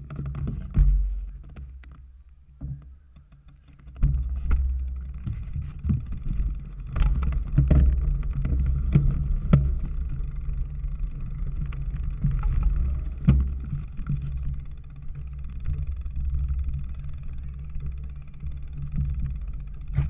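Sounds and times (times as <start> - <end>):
bike knocking and rattling: 0.0 - 20.0
wind buffeting microphone: 3.9 - 20.0.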